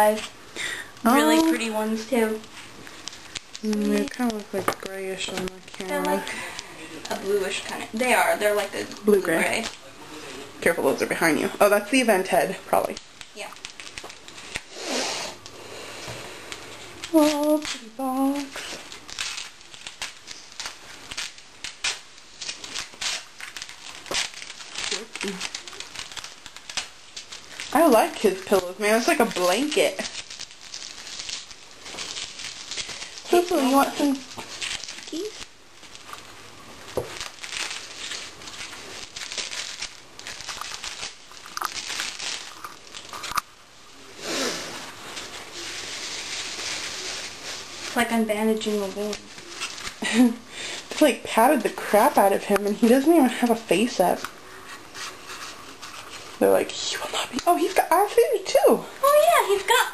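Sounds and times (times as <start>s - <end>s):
packaging crinkling and crackling: 0.0s - 59.9s.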